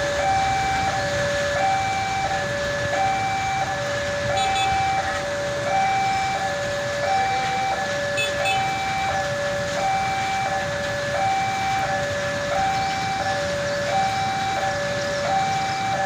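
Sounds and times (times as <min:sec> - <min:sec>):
level-crossing two-tone alarm: 0:00.0 - 0:16.0
traffic hiss on wet road: 0:00.0 - 0:16.0.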